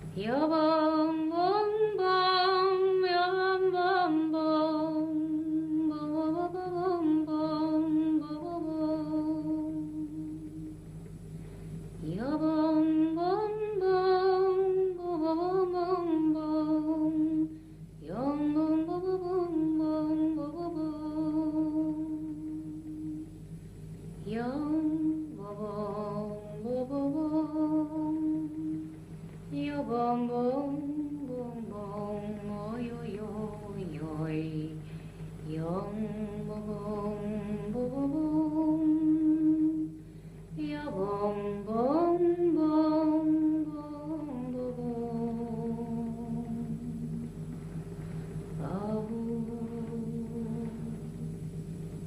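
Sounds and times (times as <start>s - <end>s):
low held accompaniment: 0.0s - 52.0s
solo voice singing with vibrato: 0.2s - 10.8s, 12.0s - 23.4s, 24.3s - 40.0s, 40.6s - 47.4s.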